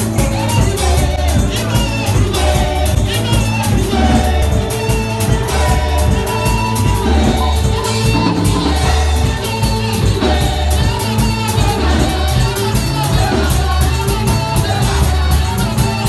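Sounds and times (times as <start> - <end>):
upbeat music with singing: 0.0 - 16.0.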